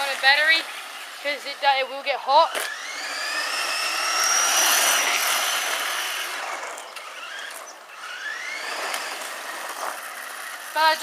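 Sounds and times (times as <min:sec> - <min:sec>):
toy truck electric motor whining: 0:00.0 - 0:11.0.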